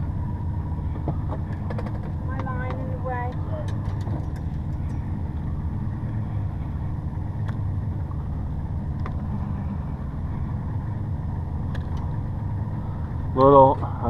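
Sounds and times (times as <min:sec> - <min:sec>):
boat motor idling: 0:00.0 - 0:14.0.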